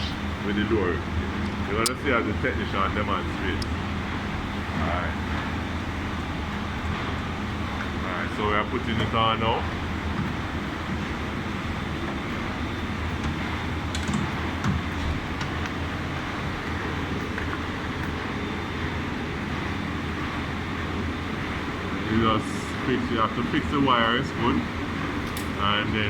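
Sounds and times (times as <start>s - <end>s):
electrical machinery hum: 0.0s - 26.0s.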